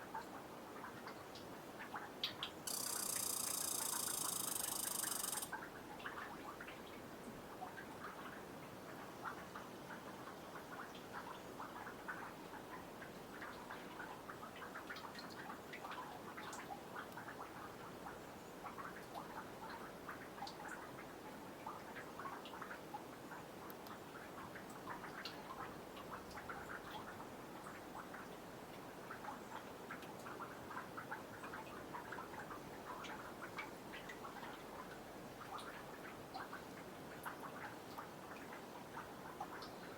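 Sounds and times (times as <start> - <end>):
faint steady hiss: 0.0 - 39.9
meltwater dripping into pond: 0.0 - 39.9.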